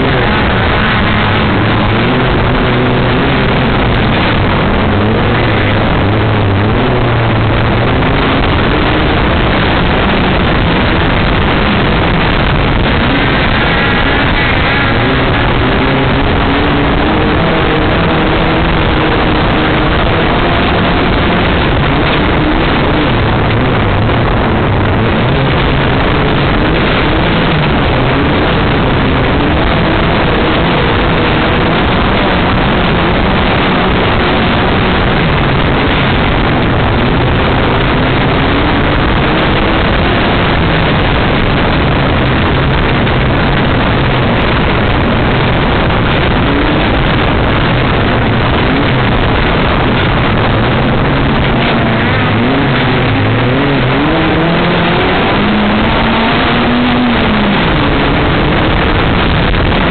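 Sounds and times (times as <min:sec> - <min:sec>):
buggy engine revving: 0:00.0 - 0:59.9
loud rush of noise: 0:00.0 - 0:59.9.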